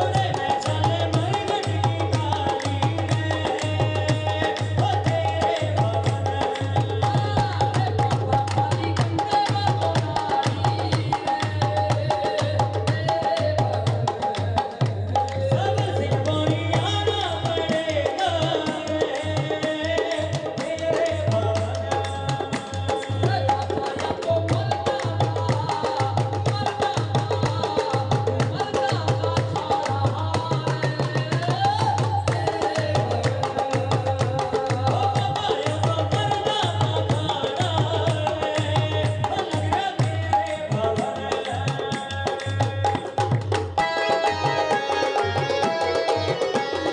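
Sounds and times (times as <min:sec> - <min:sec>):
fast hand drum beats: 0:00.0 - 0:46.9.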